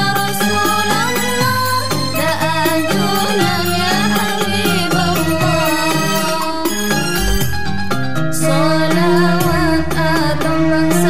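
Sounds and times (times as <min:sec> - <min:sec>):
devotional song with bass accompaniment: 0:00.0 - 0:11.0.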